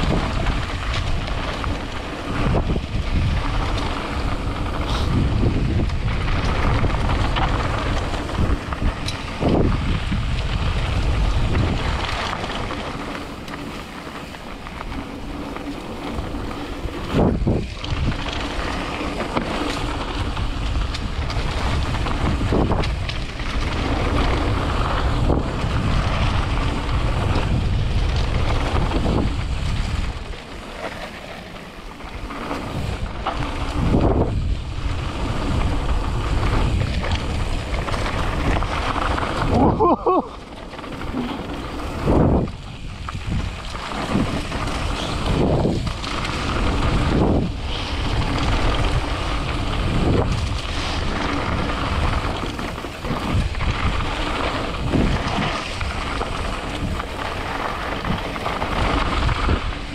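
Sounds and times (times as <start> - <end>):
tyres rolling on dirt: 0.0 - 59.9
wind rushing over microphone: 0.0 - 59.9.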